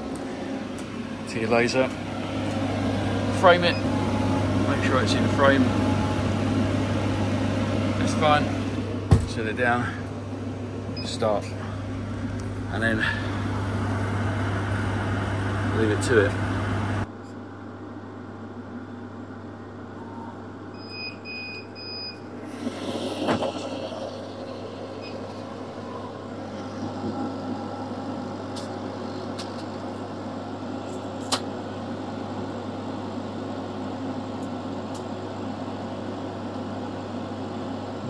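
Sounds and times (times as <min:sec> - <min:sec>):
fans humming: 0:00.0 - 0:38.0.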